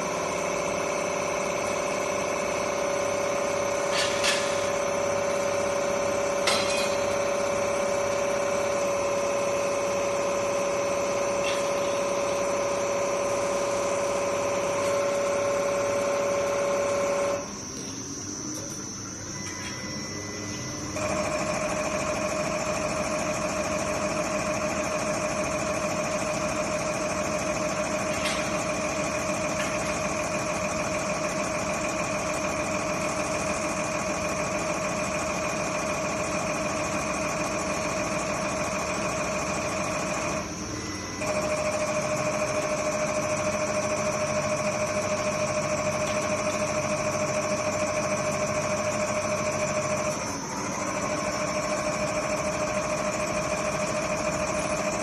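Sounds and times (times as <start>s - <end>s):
machine hum with whine: 0.0s - 55.0s.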